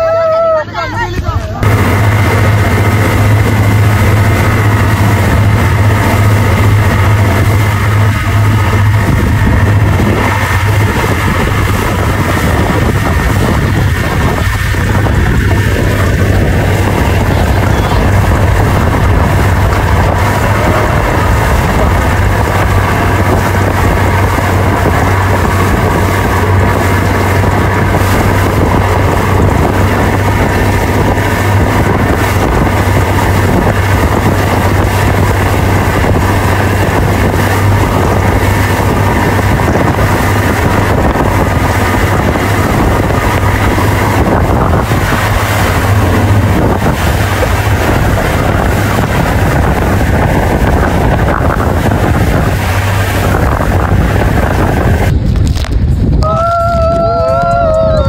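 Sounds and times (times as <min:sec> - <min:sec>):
motorboat engine droning: 0:00.0 - 0:58.0
wind buffeting microphone: 0:00.0 - 0:58.0.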